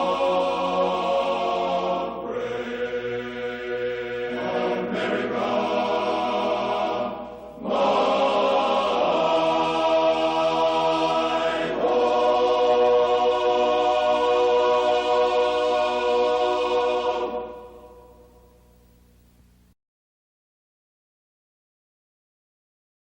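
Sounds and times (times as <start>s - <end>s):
slow choral music: 0.0s - 18.8s.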